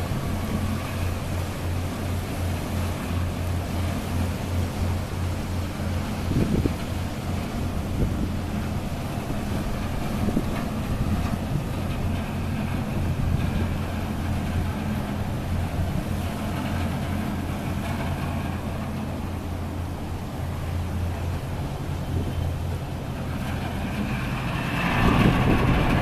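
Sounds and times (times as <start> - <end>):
ferry engines humming: 0.0 - 26.0.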